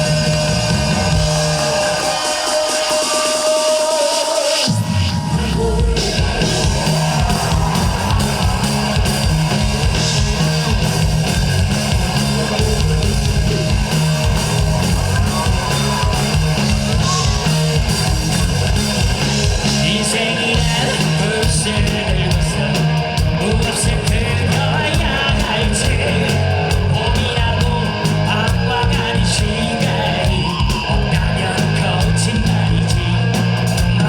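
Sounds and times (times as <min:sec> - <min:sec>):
bass guitar: 0:00.0 - 0:02.5, 0:04.7 - 0:34.0
drums: 0:00.0 - 0:34.0
electric guitar: 0:00.0 - 0:34.0.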